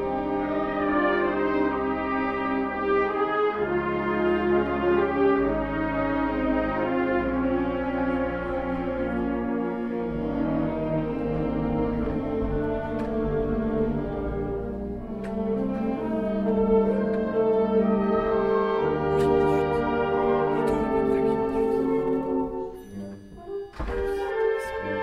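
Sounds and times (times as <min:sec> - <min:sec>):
wind band playing slow chords: 0:00.0 - 0:25.0.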